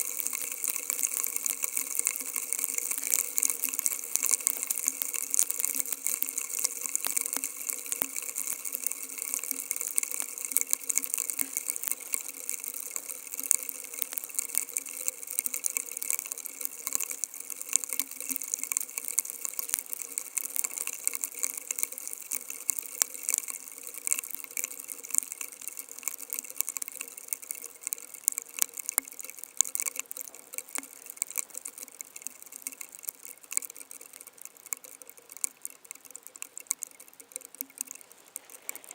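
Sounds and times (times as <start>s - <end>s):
rain drops crackling: 0.0s - 38.9s.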